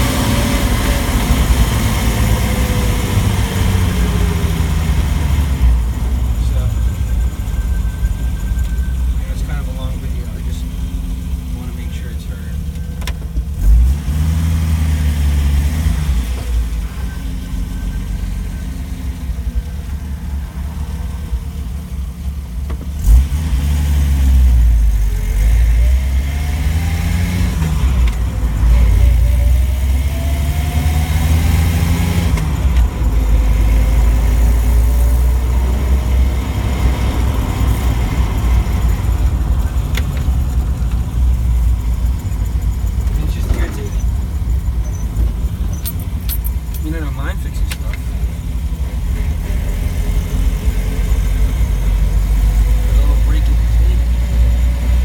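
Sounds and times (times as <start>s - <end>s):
car engine revving under load: 0.0s - 55.0s.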